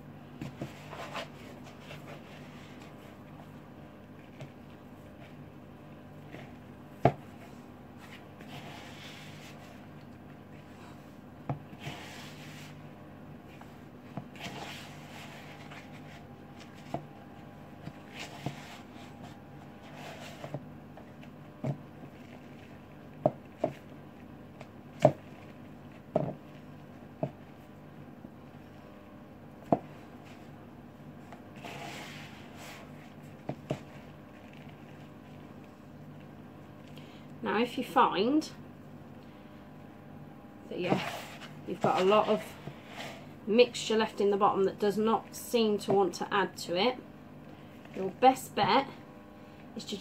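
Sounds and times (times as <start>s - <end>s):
steady low hum: 0.0s - 50.0s
hands kneading dough: 0.2s - 36.9s, 40.7s - 44.2s.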